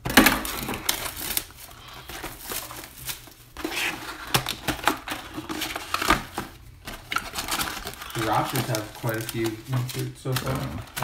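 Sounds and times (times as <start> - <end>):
cardboard rustling and scraping: 0.0 - 11.0
plastic shrink wrap crinkling: 0.0 - 11.0.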